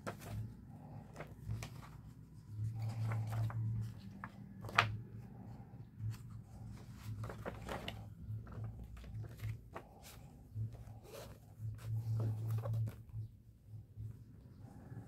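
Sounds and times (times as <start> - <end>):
paper pages rustling: 0.0 - 13.3.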